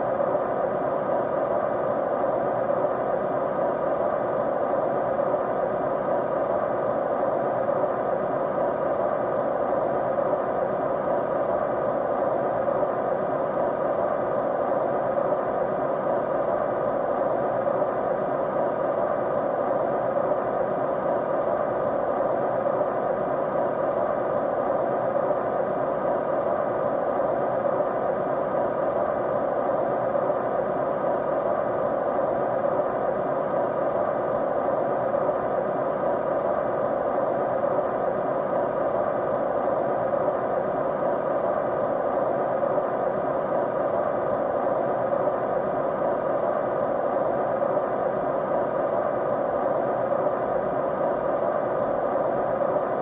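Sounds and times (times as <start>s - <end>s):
faint steady hum: 0.0s - 53.0s
white noise hiss: 0.0s - 53.0s.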